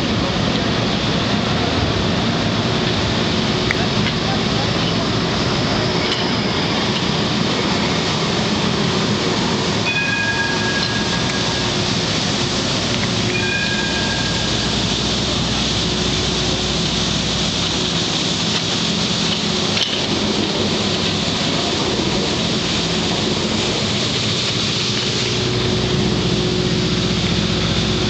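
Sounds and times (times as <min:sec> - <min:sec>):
tram passing by: 0:00.0 - 0:28.0.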